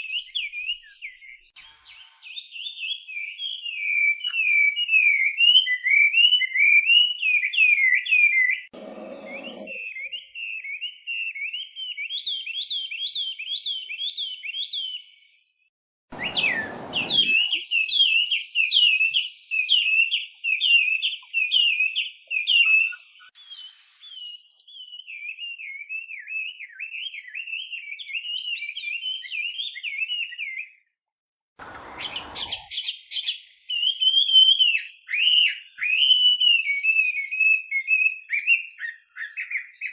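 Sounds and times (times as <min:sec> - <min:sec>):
bird singing whistled notes: 0:00.0 - 0:15.4, 0:16.2 - 0:30.9, 0:31.8 - 0:39.9.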